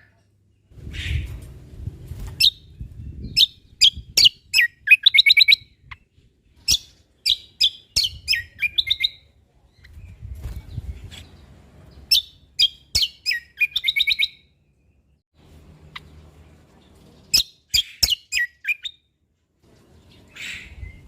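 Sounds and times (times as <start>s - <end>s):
bird chirping song: 2.2s - 21.0s.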